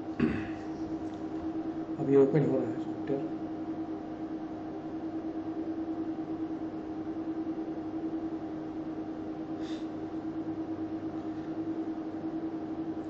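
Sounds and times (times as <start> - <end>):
steady hum with pulsing tone: 0.0 - 13.0.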